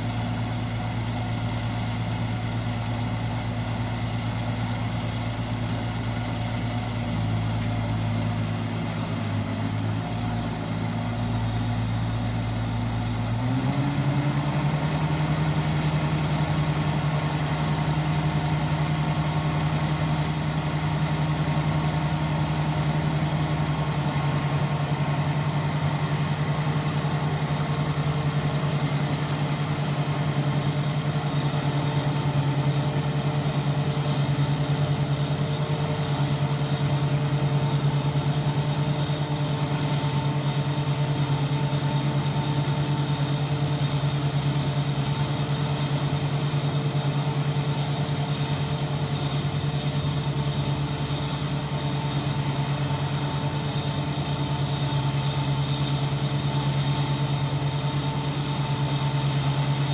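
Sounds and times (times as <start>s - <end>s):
harvester engine running: 0.0s - 59.9s.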